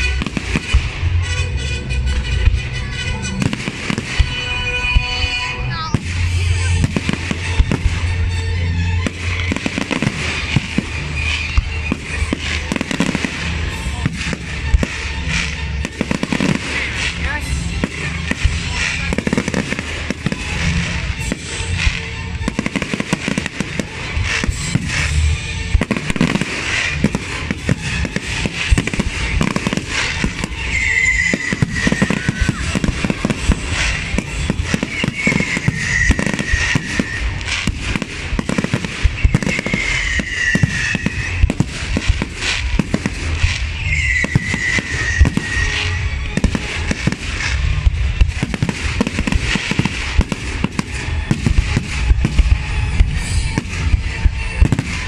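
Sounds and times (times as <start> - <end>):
falling whistling fireworks: 0.0 - 55.0
fireworks bangs and crackling: 0.0 - 55.0.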